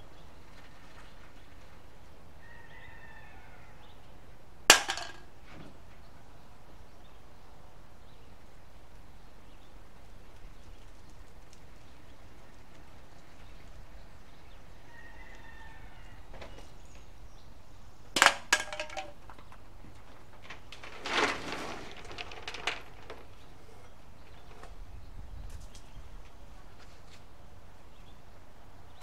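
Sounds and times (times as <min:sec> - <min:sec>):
low background noise: 0:00.0 - 0:29.0.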